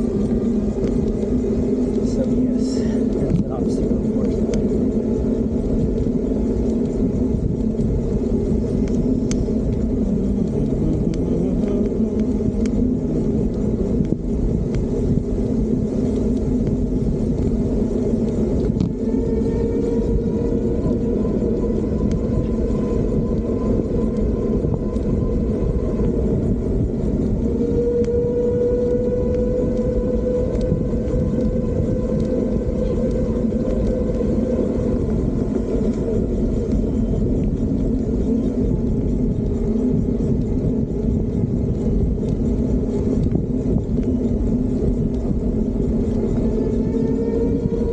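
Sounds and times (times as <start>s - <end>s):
steady whine: 0.0s - 47.9s
wind and road noise: 0.0s - 47.9s.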